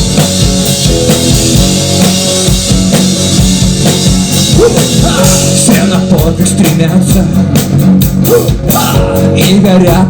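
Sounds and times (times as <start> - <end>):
bass notes: 0.0 - 10.0
drum kit beat: 0.0 - 10.0
live band playing: 0.0 - 10.0.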